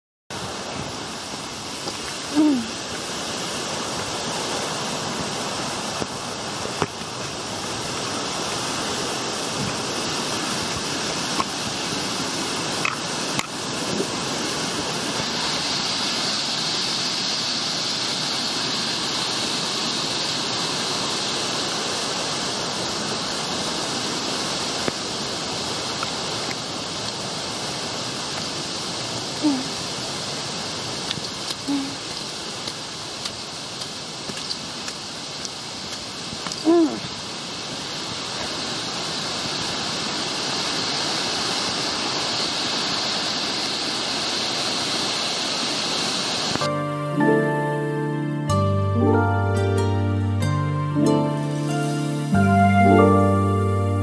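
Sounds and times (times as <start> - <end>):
waterfall rushing: 0.3 - 54.0.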